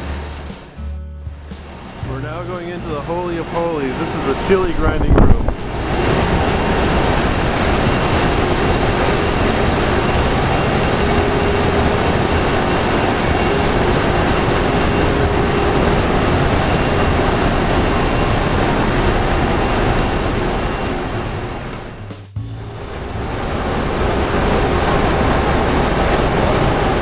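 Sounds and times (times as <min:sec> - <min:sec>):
faint hum: 0:00.0 - 0:27.0
grinding machinery running: 0:00.0 - 0:27.0.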